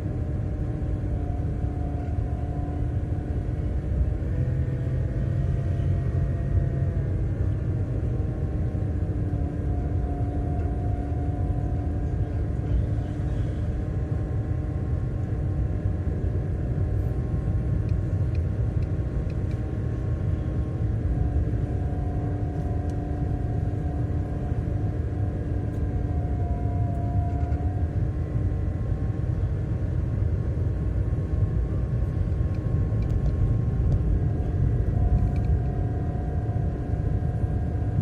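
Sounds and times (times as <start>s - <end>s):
car engine and road noise: 0.0s - 38.0s
faint steady hum: 0.0s - 38.0s.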